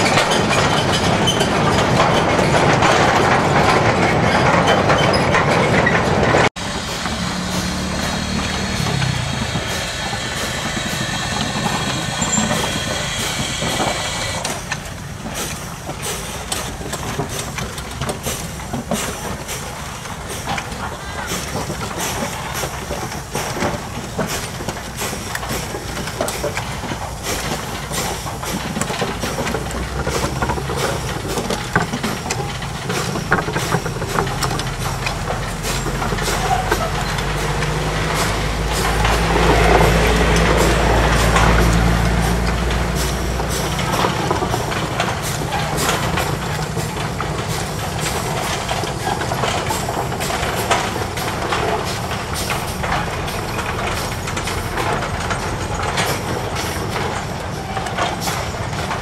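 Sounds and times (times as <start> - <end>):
clanks of running gear and wagons: 0.0 - 6.5, 7.5 - 59.0
steam locomotive working slowly: 0.0 - 59.0.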